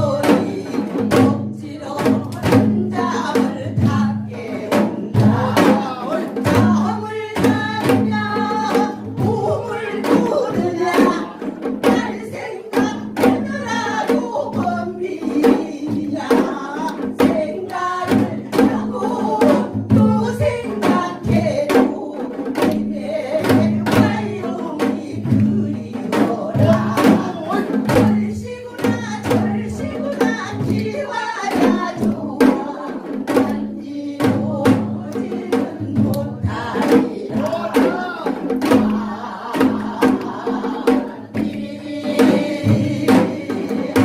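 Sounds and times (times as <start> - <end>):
person singing: 0.0 - 44.0.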